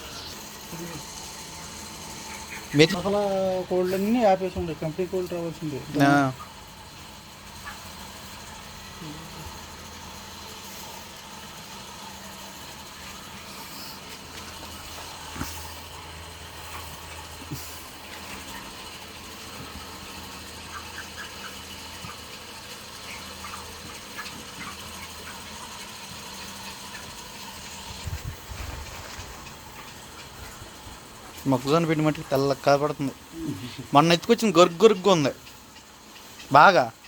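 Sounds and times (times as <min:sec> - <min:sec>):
poultry chirping: 0:00.0 - 0:33.2, 0:33.8 - 0:37.0
motor hum with hiss: 0:00.0 - 0:37.0.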